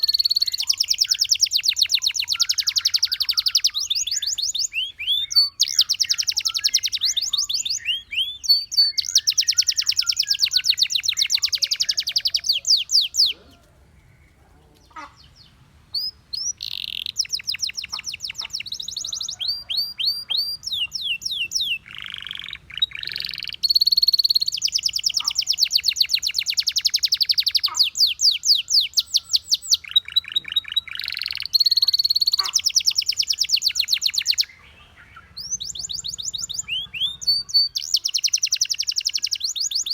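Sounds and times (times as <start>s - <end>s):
canary singing in trills: 0.0s - 39.9s.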